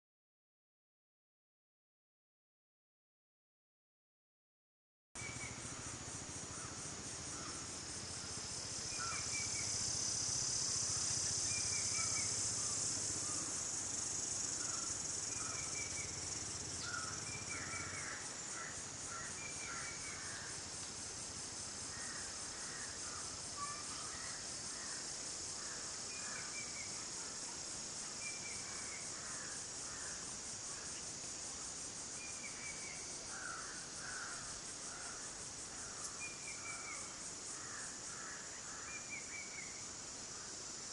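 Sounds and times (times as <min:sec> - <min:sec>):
high insect drone: 0:05.2 - 0:40.9.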